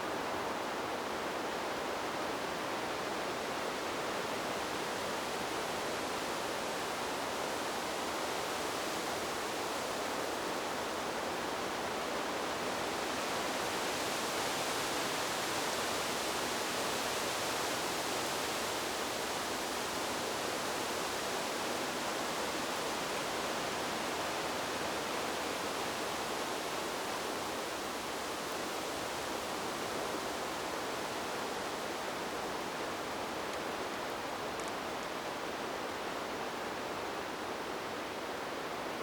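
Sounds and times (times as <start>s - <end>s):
wind blowing through trees: 0.0s - 39.0s.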